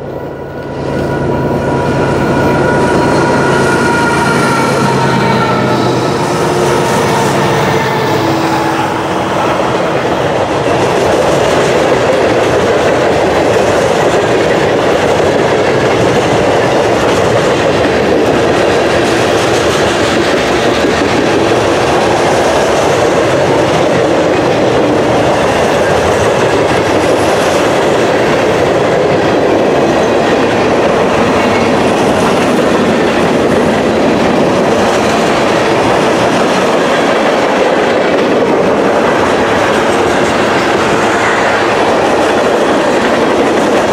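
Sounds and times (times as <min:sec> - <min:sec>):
train wheels running on rails: 0:00.0 - 0:43.9.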